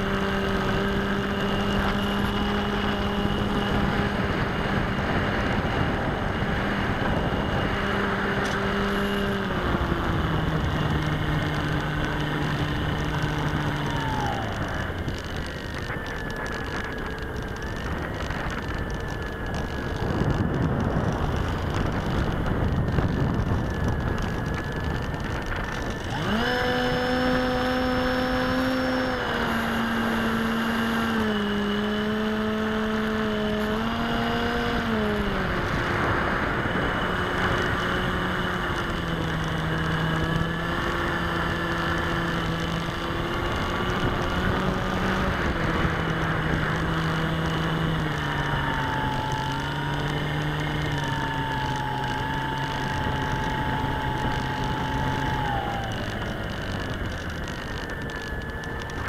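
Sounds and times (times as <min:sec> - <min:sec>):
model plane motor whining: 0:00.0 - 0:59.0.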